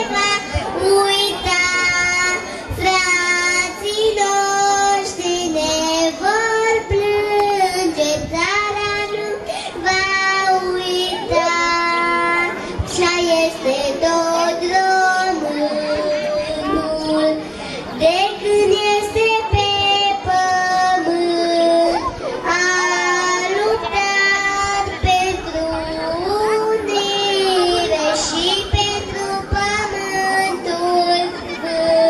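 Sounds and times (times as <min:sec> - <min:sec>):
girl singing into a microphone: 0:00.0 - 0:32.0.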